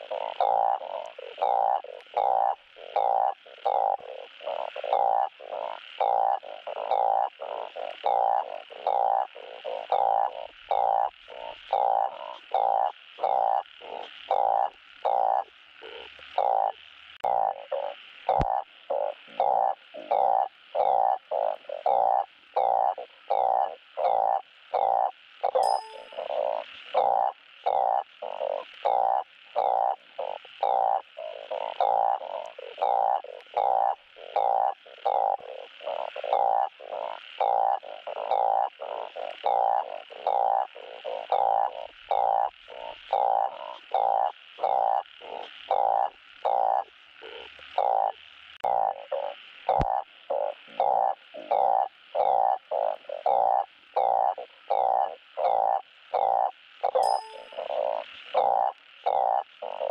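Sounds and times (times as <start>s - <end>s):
frogs croaking: 0.0s - 59.9s.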